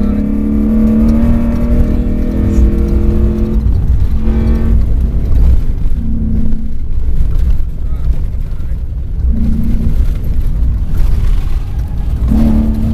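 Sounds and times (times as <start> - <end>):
engine drone: 0.0 - 12.9
truck rumbling over rough ground: 0.0 - 12.9.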